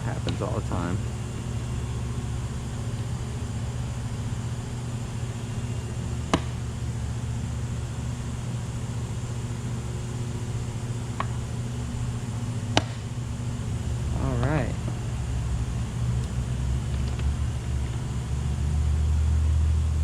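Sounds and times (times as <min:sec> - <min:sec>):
low hum of machinery: 0:00.0 - 0:20.0.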